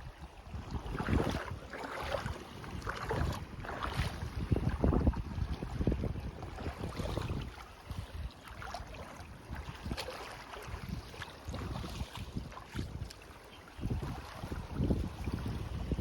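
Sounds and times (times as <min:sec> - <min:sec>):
wind gusting on microphone: 0:00.0 - 0:13.2, 0:13.8 - 0:16.0
small waves washing on beach: 0:00.0 - 0:16.0.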